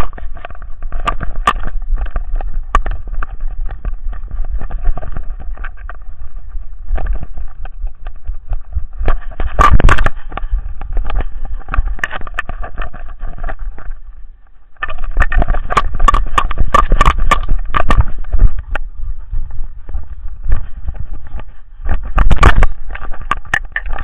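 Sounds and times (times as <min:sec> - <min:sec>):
camera mount knocking and rattling: 0:00.0 - 0:06.1, 0:06.9 - 0:14.0, 0:14.8 - 0:18.9, 0:20.5 - 0:24.0
wind rumble on microphone: 0:00.0 - 0:24.0.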